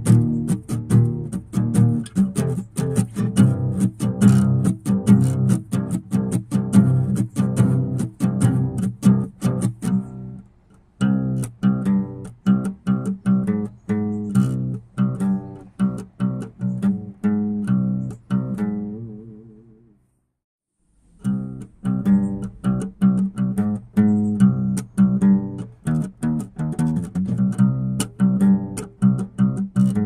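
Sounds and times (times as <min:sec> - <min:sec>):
plucked guitar notes: 0:00.0 - 0:20.0, 0:21.2 - 0:30.0.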